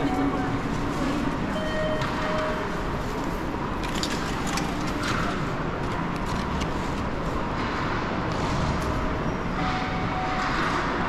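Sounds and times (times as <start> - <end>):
hollow hall hum: 0.0 - 11.0.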